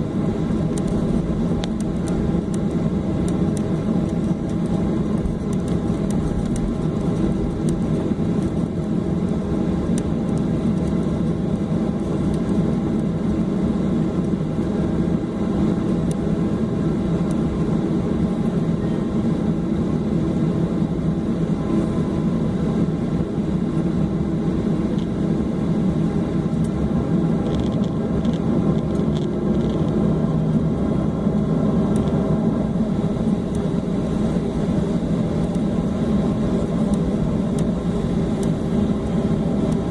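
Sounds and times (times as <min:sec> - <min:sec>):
airplane cabin hum: 0:00.0 - 0:39.9.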